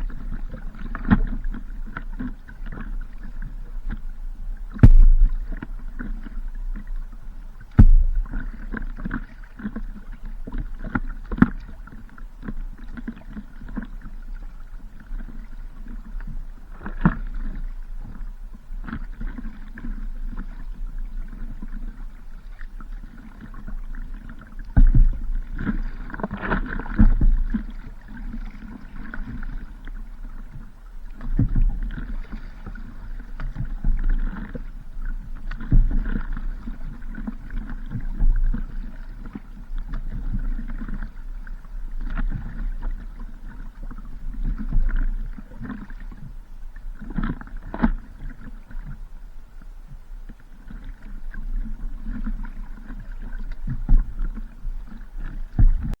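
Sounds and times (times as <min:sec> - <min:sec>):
wind rumbling on microphone: 0:00.0 - 0:12.1, 0:13.2 - 0:56.0
water sloshing and splashing: 0:00.0 - 0:56.0.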